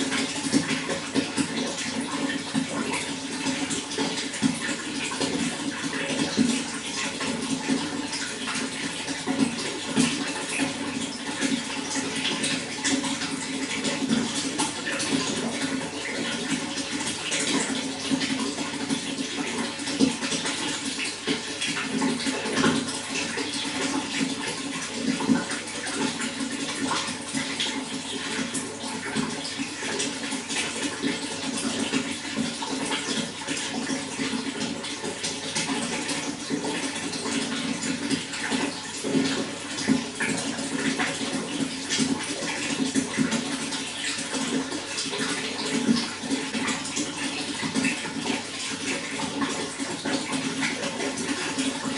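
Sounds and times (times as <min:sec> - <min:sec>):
running water flowing: 0:00.0 - 0:51.9.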